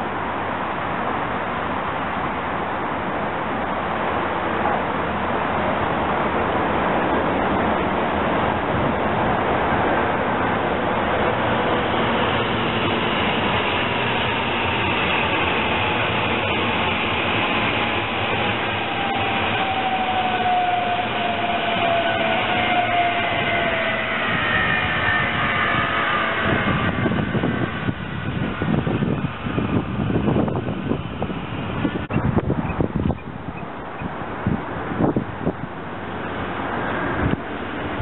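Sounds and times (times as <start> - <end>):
electric train passing: 0.0 - 38.0.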